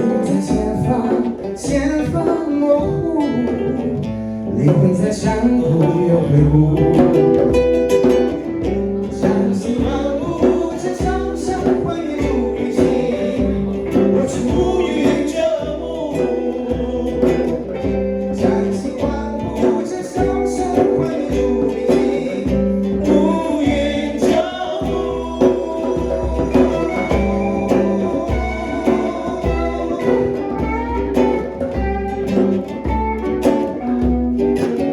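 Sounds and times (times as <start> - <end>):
acoustic and electric guitars: 0.0 - 34.9
person singing: 0.0 - 34.9
steady drum beat: 0.0 - 34.9.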